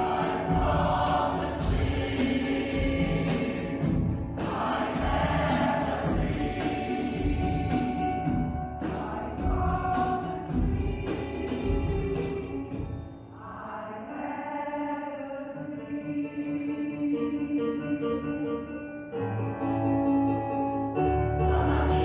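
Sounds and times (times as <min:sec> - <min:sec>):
choir singing: 0:00.0 - 0:18.4, 0:21.1 - 0:22.0.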